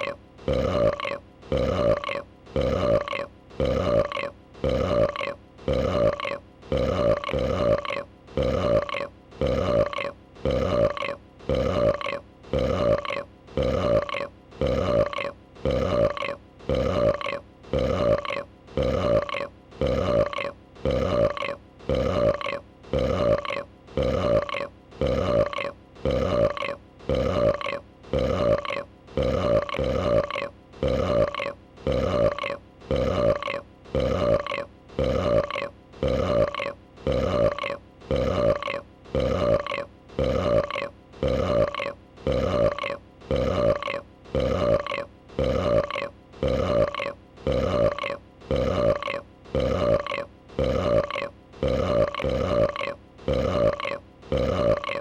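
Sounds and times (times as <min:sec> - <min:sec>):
dragon burp: 0:00.0 - 0:55.0.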